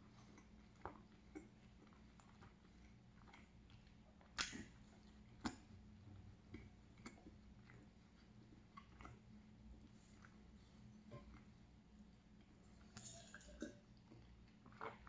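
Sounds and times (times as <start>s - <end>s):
soft chewing clicks: 0.0s - 15.0s.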